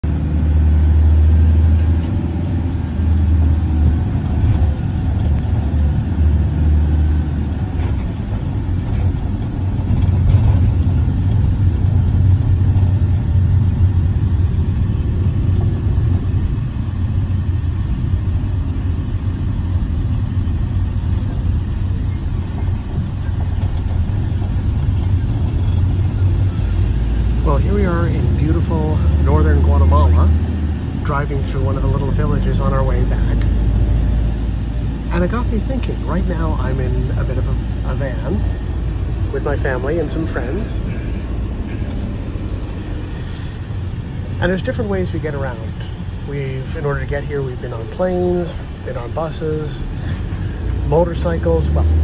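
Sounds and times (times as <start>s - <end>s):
van engine and tyre rumble: 0.0s - 52.0s.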